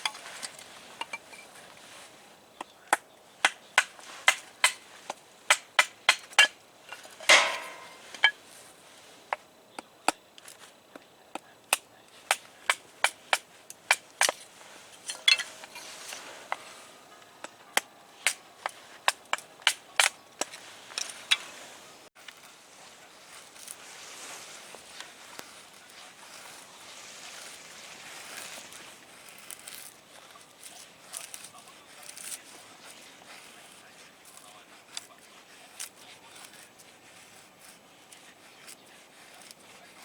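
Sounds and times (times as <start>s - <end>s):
campfire wood crackling: 0.0s - 40.0s.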